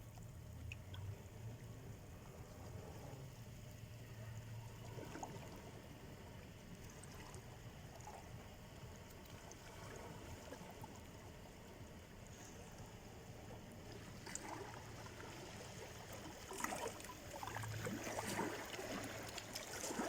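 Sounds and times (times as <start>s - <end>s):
gentle sea surf washing: 0.8s - 20.0s.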